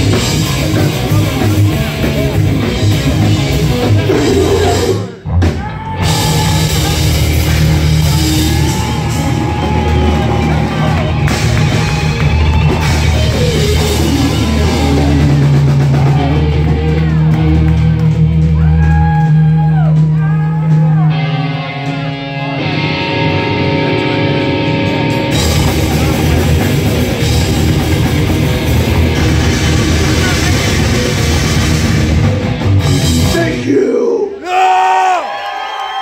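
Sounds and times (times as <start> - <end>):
electric guitars: 0.0 - 33.8
bass guitar: 0.0 - 34.4
drums: 0.0 - 36.0.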